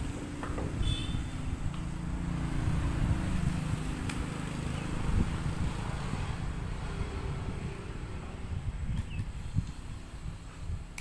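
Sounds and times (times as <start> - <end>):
motor engine rumbling: 0.0 - 11.0.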